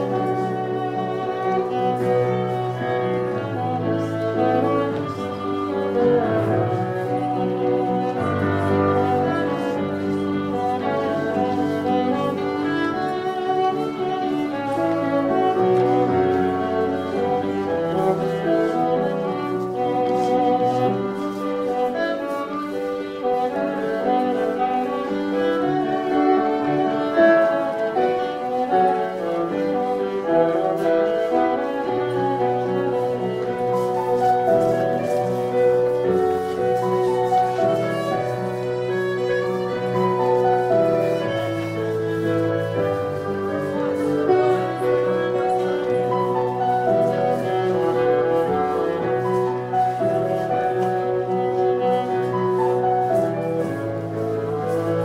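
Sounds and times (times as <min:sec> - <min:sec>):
fiddle playing dance tune: 0:00.0 - 0:55.0.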